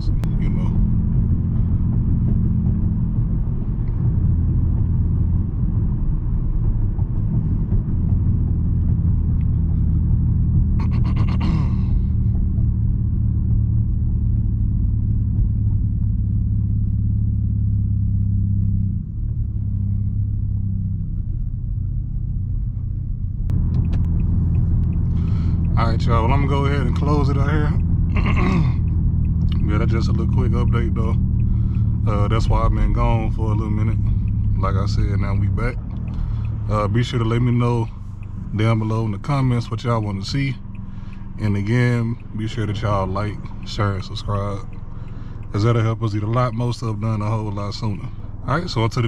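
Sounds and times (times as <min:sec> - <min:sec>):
car exhaust droning: 0:00.0 - 0:49.0.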